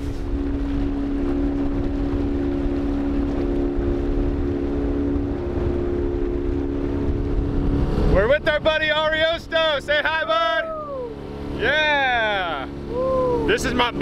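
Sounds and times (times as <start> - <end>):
outboard motor humming: 0.0 - 14.0
wind rumbling on microphone: 0.0 - 14.0.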